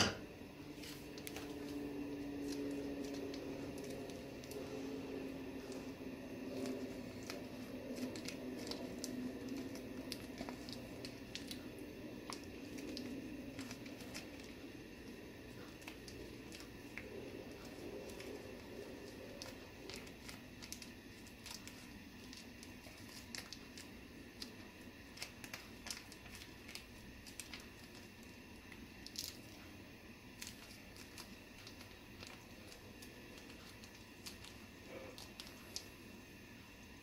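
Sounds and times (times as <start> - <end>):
heating liquid popping and ticking: 0.0 - 37.0.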